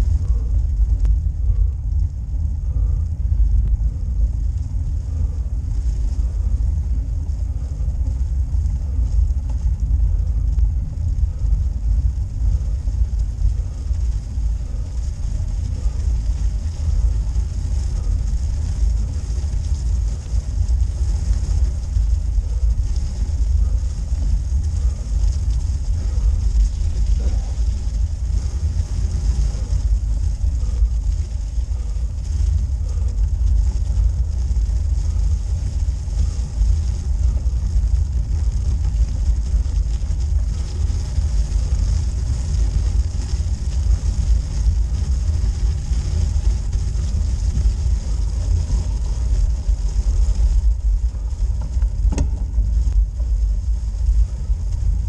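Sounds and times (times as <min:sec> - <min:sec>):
bike tyres rolling on snow: 0:00.0 - 0:55.0.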